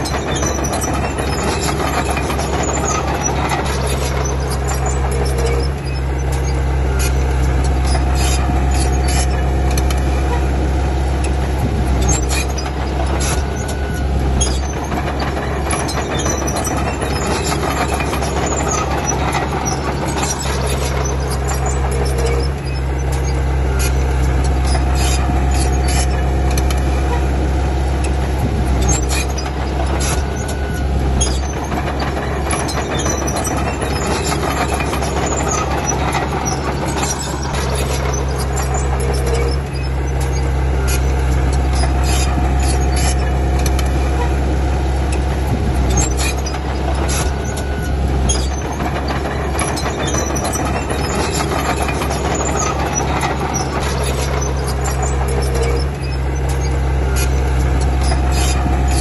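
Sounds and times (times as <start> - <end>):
bulldozer diesel engine running: 0.0 - 59.0
steel tracks squeaking and clanking: 0.0 - 59.0.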